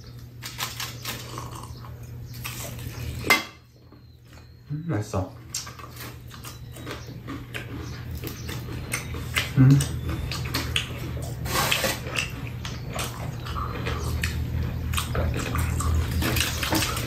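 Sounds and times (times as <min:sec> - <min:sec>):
chewing and crunching fried chicken: 0:00.0 - 0:04.7, 0:05.3 - 0:17.0
low steady hum: 0:00.0 - 0:17.0.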